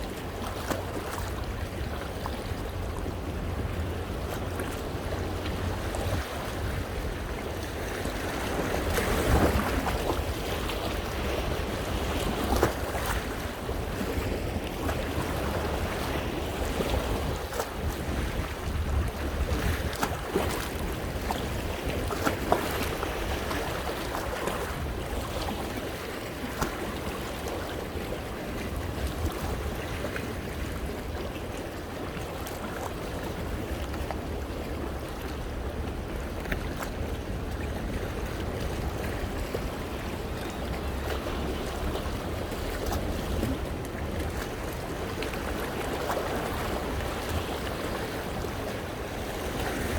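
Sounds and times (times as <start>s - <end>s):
waves splashing against rocks: 0.0s - 49.9s
wind rumbling on microphone: 0.0s - 49.9s.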